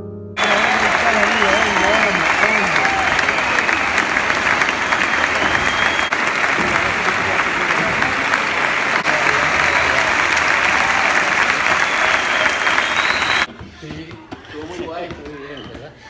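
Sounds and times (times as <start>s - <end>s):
audience applauding: 0.4s - 13.5s.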